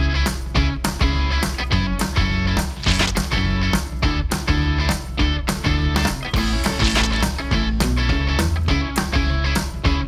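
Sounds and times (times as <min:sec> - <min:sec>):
guitar music on steady beat: 0:00.0 - 0:10.0.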